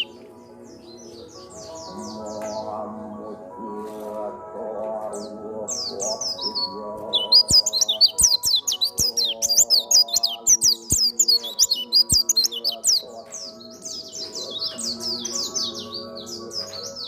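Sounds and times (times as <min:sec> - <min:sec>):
bird twittering song: 0:00.0 - 0:03.2, 0:05.2 - 0:17.0
background music: 0:00.0 - 0:17.0.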